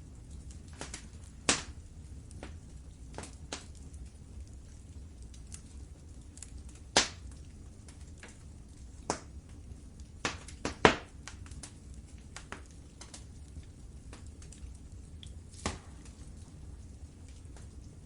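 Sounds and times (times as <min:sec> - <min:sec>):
fire popping: 0:00.0 - 0:18.0
low fire rumble: 0:00.0 - 0:18.0
wood fire crackling: 0:00.0 - 0:18.0.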